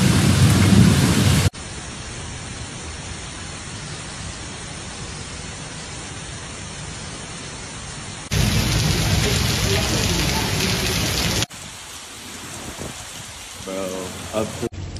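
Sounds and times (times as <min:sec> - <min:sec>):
heavy rain hissing: 0:00.0 - 0:14.9.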